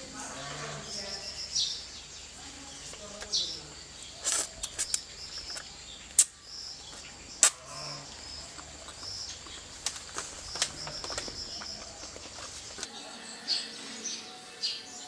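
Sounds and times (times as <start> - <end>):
outdoor hiss: 0.0 - 15.0
small birds chirping: 0.0 - 15.0.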